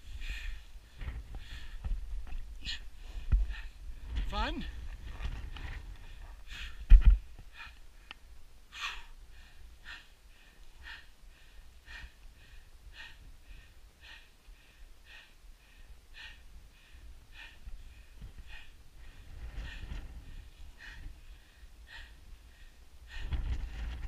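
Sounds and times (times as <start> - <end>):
heavy quick breathing: 2.6 - 8.1, 8.7 - 24.0.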